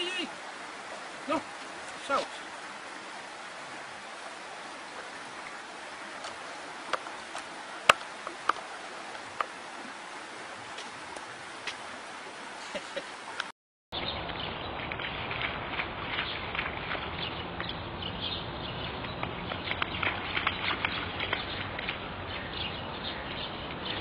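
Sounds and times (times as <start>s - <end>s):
flowing water: 0.0s - 24.0s.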